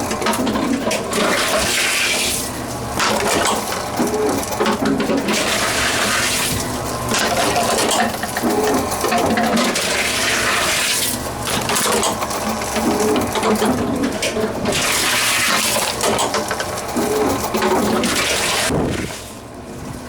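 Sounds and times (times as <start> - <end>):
vending machine rush and rattle: 0.0 - 20.0.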